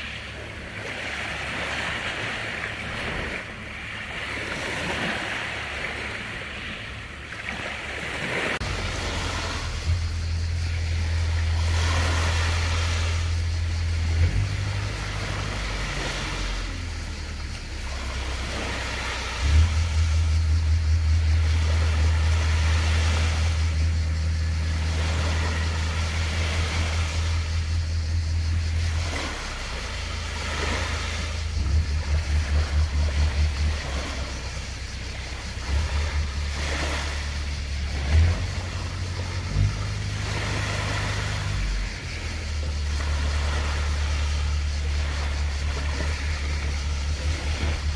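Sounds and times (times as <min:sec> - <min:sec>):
vehicle engine rumble: 0:00.0 - 0:47.9
wind noise on microphone: 0:00.0 - 0:47.9.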